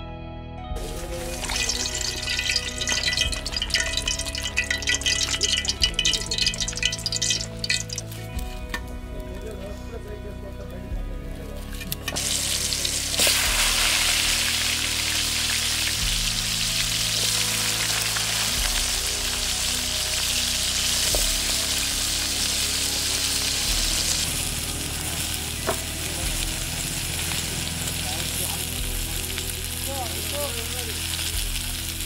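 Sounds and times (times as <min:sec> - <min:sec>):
eggplant sizzling in hot oil: 0:00.8 - 0:08.2, 0:12.1 - 0:32.0.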